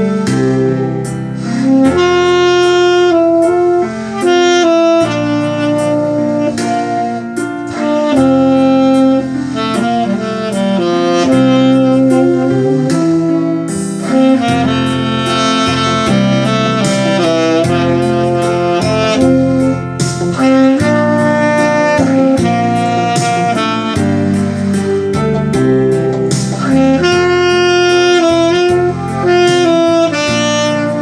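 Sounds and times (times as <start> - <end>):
bass line: 0.0 - 31.0
instrumental accompaniment: 0.0 - 31.0
tenor saxophone melody: 0.0 - 31.0.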